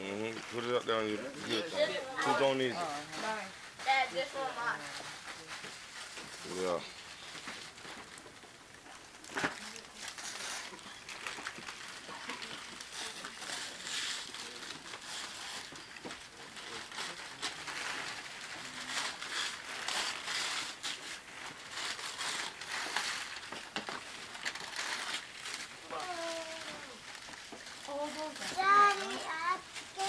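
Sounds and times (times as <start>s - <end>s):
wrapping paper crinkling and tearing: 0.1s - 30.0s.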